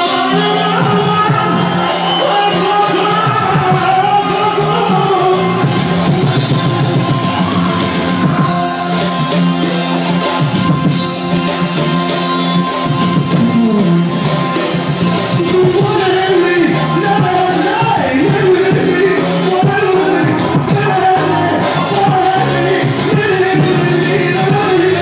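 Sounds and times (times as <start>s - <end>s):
person singing: 0.0s - 10.4s, 13.2s - 25.0s
band music with steady beat: 0.0s - 25.0s.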